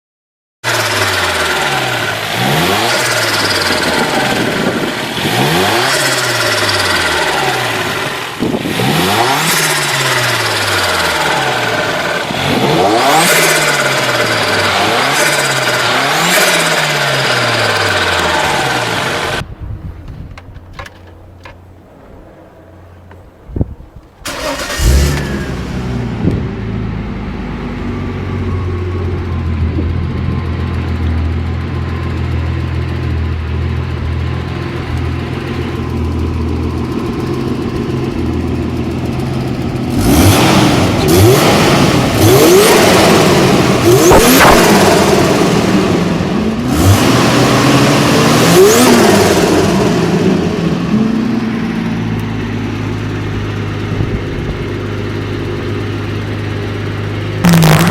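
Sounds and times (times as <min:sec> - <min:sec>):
turbocharged car engine revving: 0:00.6 - 0:19.4, 0:24.3 - 0:57.9.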